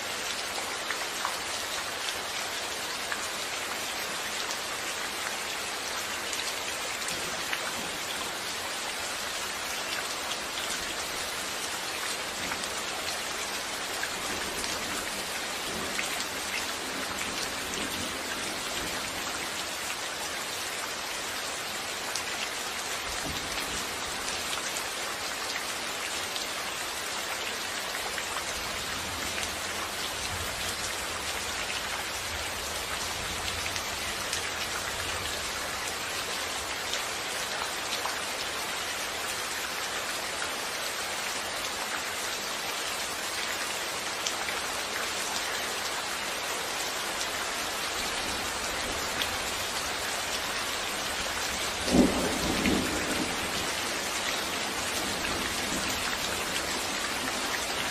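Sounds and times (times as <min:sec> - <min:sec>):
steady rain pattering: 0:00.0 - 0:57.9.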